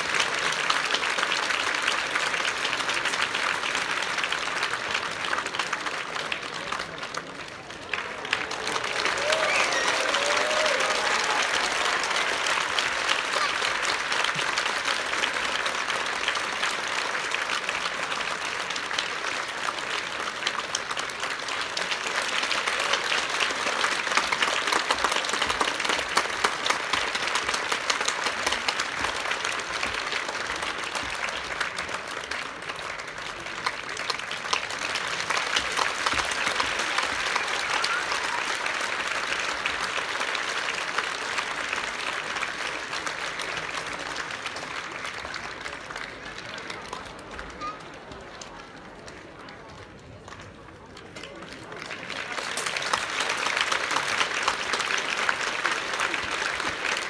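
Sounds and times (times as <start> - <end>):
audience applauding: 0.0 - 57.0.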